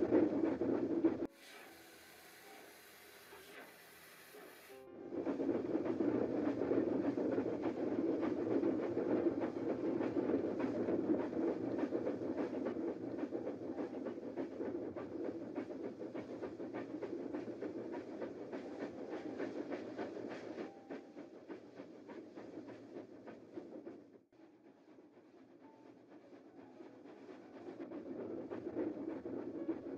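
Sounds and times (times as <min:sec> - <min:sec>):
steam train running: 0:00.0 - 0:29.9.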